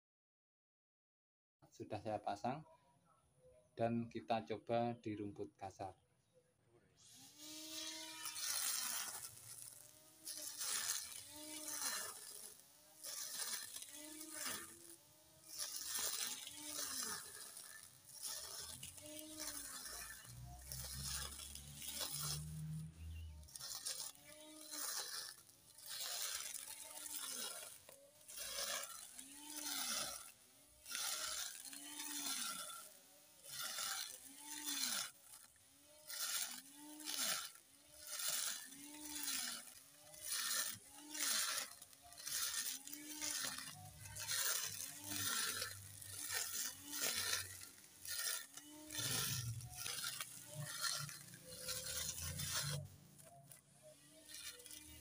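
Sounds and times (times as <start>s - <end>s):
grass being cut hissing: 7.0s - 55.0s
grass trimmer motor whine: 7.0s - 55.0s.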